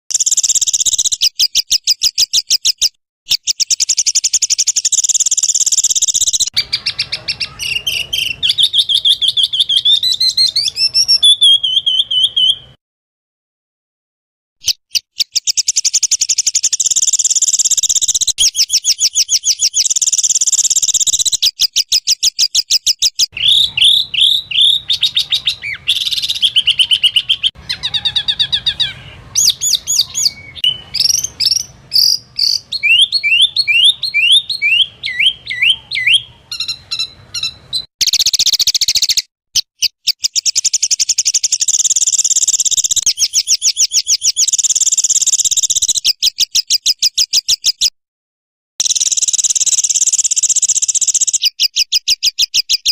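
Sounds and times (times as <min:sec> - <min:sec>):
rapid high bird notes: 0:00.1 - 0:12.7, 0:14.6 - 0:46.5
warbling bird song: 0:00.1 - 0:12.8, 0:14.6 - 0:47.9, 0:48.8 - 0:52.9.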